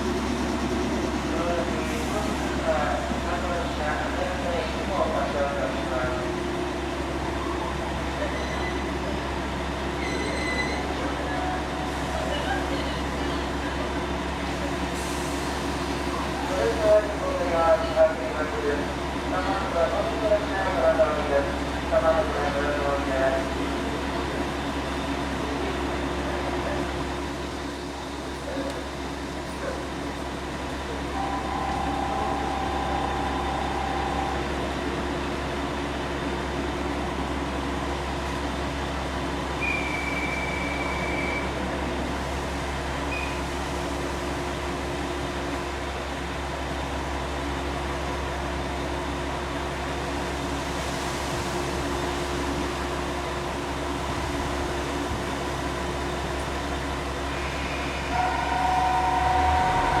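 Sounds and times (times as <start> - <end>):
diesel railcar engines idling: 0.0 - 60.0.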